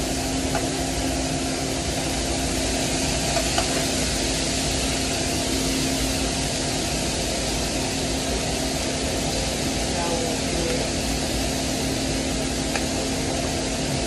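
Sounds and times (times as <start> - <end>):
exhaust hood fan drone: 0.0 - 14.0.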